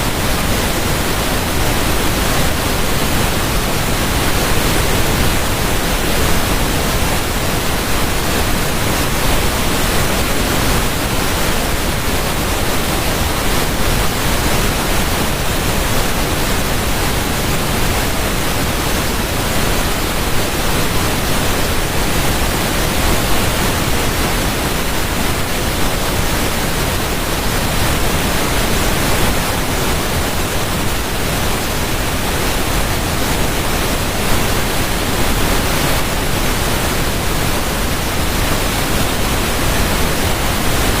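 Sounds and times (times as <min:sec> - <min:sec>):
rushing water: 0:00.0 - 0:41.0.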